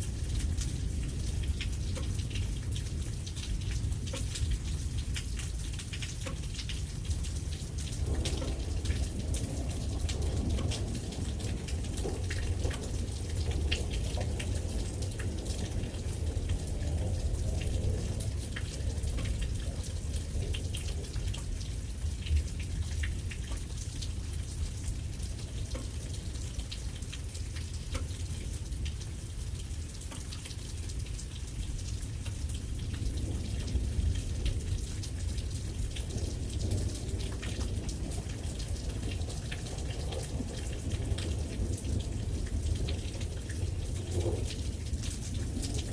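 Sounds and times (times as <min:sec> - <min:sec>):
rain drops ticking on a surface: 0:00.0 - 0:45.9.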